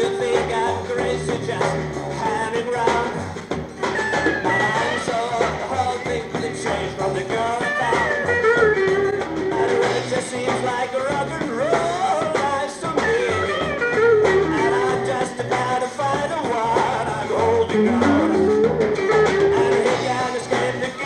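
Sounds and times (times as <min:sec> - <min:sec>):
person singing: 0:00.0 - 0:03.2, 0:04.2 - 0:21.0
guitar: 0:00.0 - 0:21.0
steady drum beat: 0:00.0 - 0:21.0.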